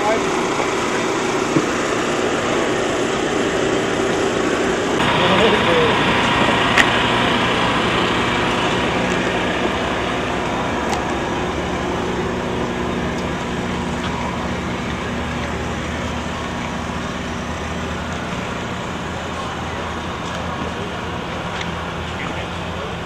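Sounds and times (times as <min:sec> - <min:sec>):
low mechanical rumble: 0:00.0 - 0:23.0.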